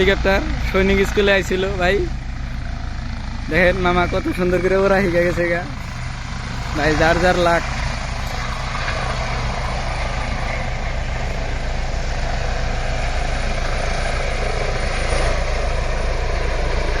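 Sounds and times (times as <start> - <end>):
helicopter rotor beat: 0.0 - 17.0.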